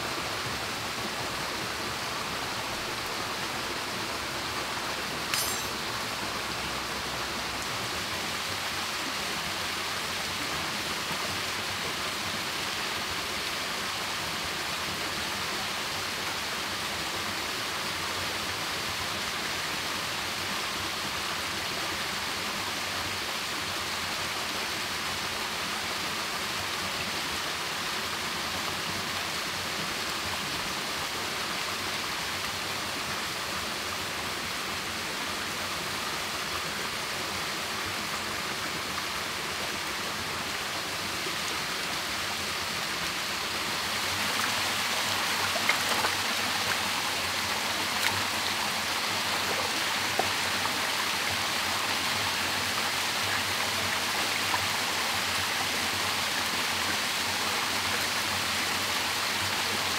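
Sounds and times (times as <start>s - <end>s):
waterfall and stream over rocks: 0.0s - 59.9s.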